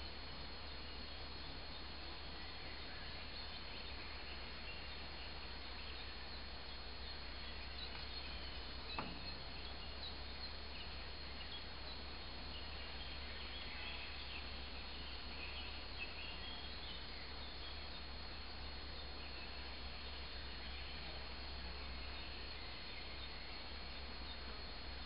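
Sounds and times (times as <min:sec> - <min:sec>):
faint bird chirps: 0:00.0 - 0:25.0
steady hiss: 0:00.0 - 0:25.0.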